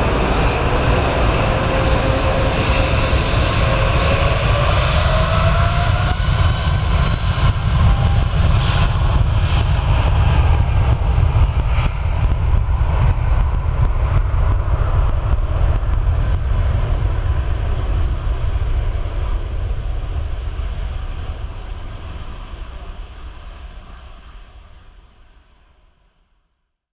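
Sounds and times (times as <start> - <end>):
jet engines rumbling: 0.0 - 25.5.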